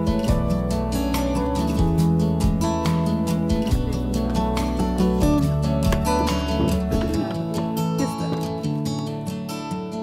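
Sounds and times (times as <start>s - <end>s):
acoustic guitar music with beat: 0.0s - 10.0s.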